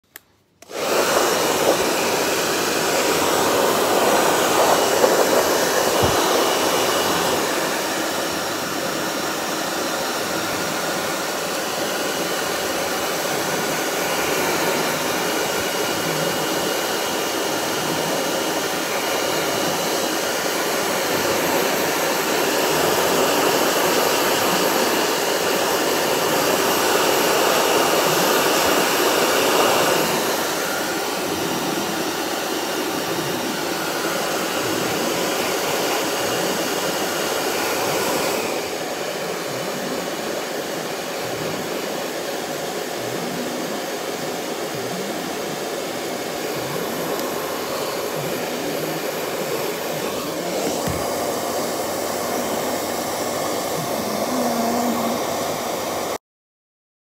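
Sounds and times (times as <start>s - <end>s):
hair dryer blowing: 0.0s - 56.2s.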